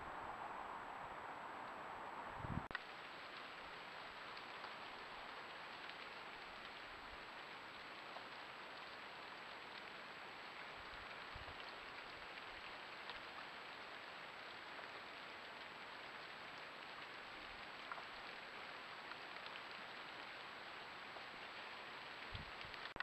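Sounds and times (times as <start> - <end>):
light rain pattering: 0.0 - 23.0.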